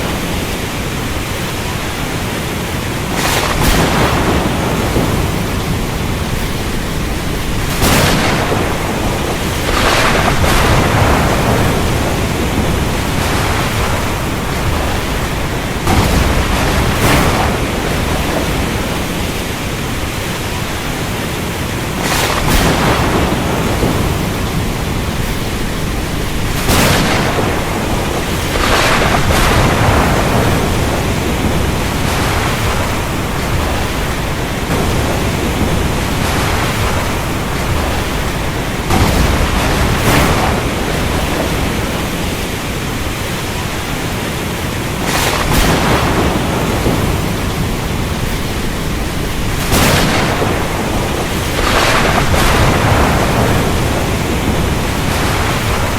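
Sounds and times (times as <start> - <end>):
heavy rain: 0.0 - 55.9
sharp thunder cracks: 3.0 - 20.5, 21.9 - 43.1, 44.9 - 55.9.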